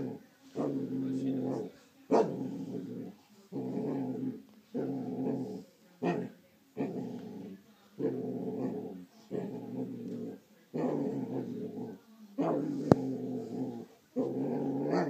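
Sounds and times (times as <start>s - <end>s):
dog growling: 0.0s - 15.0s.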